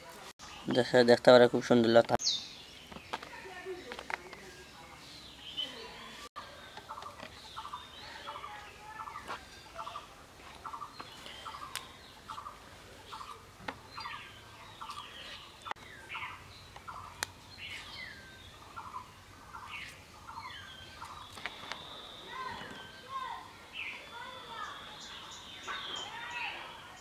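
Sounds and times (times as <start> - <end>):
birds calling: 0.4 - 27.0.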